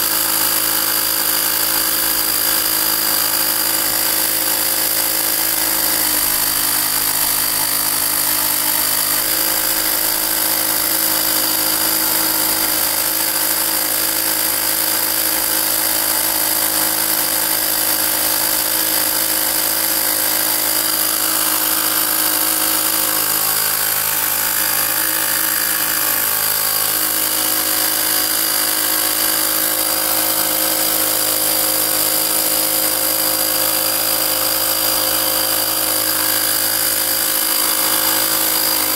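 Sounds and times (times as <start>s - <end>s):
portable air compressor running: 0.0s - 38.9s.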